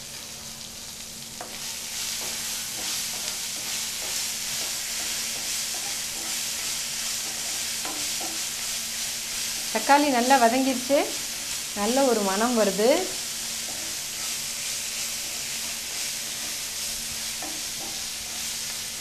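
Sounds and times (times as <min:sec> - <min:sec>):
vegetables sizzling in a pan: 0:00.0 - 0:19.0
wooden spatula scraping a pan: 0:01.4 - 0:19.0.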